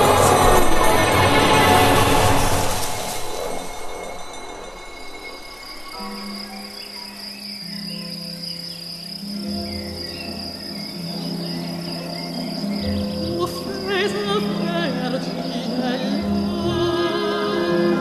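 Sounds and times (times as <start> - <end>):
cricket chirring: 0.0 - 18.0.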